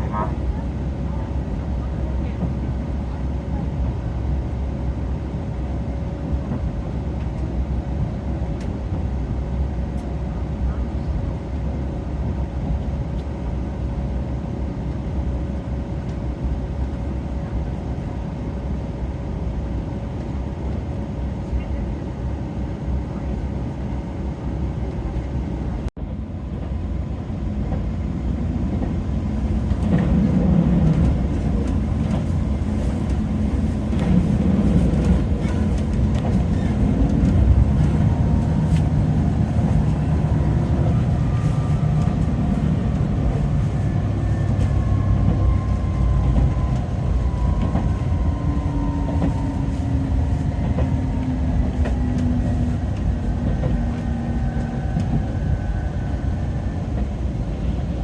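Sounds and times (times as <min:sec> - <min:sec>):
railcar engine and wheels rumbling: 0:00.0 - 0:58.0.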